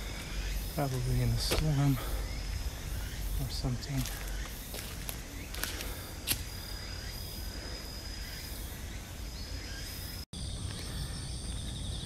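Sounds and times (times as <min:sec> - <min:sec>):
insect trill: 0:00.0 - 0:12.0
pulsing insect chorus: 0:00.0 - 0:12.0.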